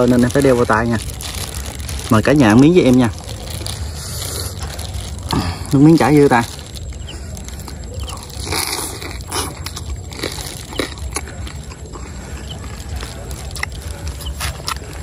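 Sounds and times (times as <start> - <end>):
crisp crunching bites: 0.0 - 15.0
steady low rumble: 0.0 - 15.0.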